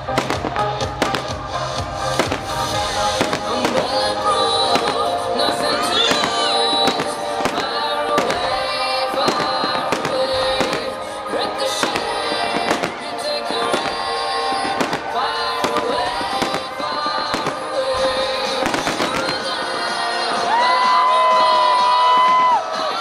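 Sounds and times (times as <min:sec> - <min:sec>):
fireworks popping and crackling: 0:00.0 - 0:23.0
loud music: 0:00.0 - 0:23.0.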